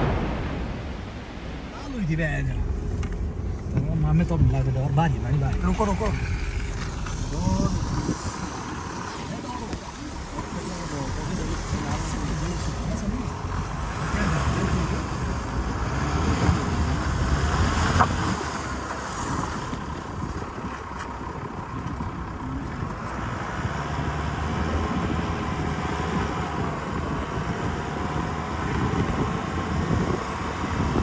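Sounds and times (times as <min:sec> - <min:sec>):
pickup engine and tyres rumbling: 0:00.0 - 0:31.0.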